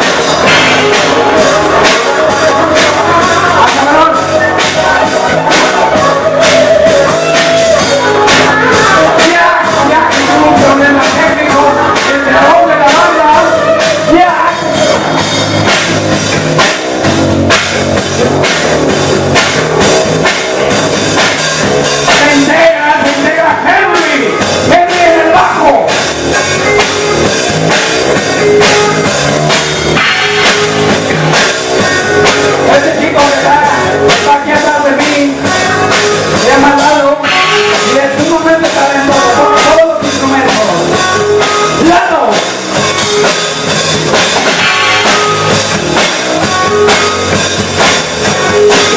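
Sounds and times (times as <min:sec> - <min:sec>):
loud rock music: 0:00.0 - 0:48.9.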